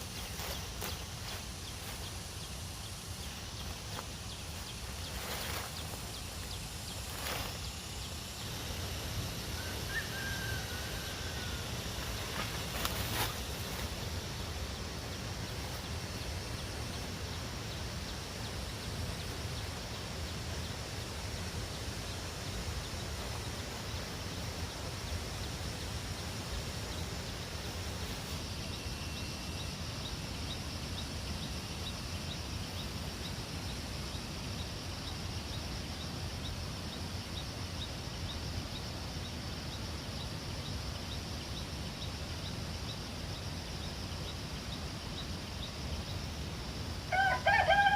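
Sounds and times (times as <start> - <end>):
outdoor background noise: 0.0 - 47.9.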